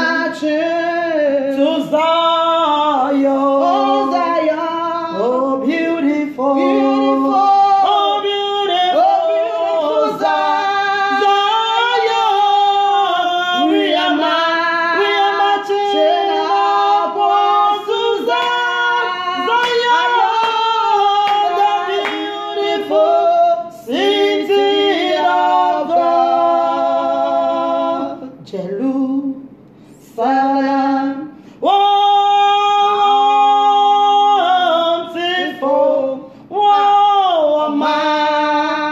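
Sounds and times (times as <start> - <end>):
two women singing: 0.0 - 38.9.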